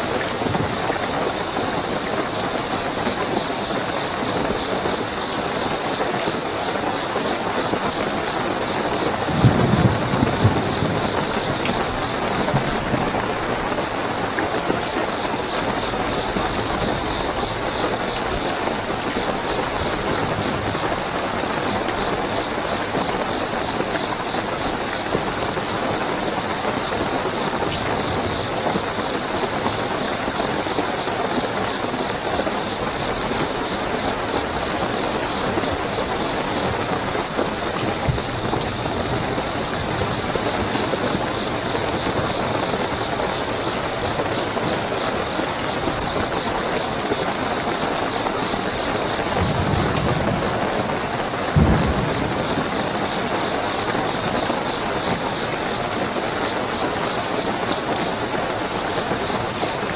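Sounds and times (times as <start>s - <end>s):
crickets chirping: 0.0s - 59.9s
heavy rainfall: 0.0s - 59.9s.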